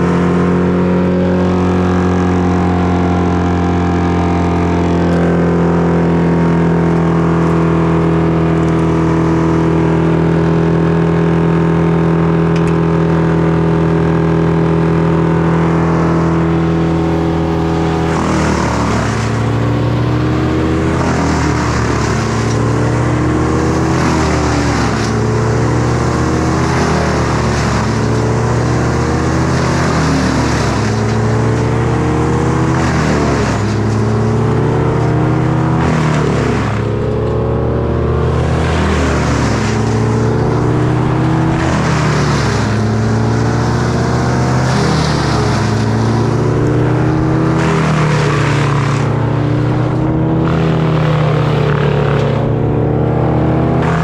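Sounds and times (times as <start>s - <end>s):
chainsaw cutting: 0.0s - 52.7s, 53.4s - 54.0s.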